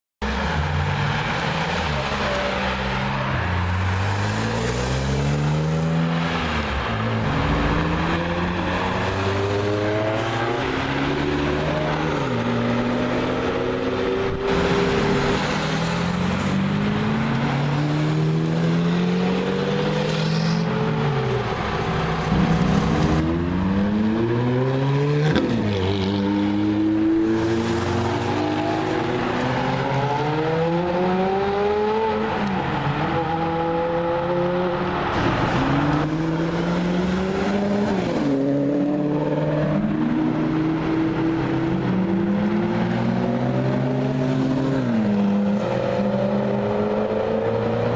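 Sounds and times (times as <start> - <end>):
supercar engines accelerating hard: 0.6 - 47.9.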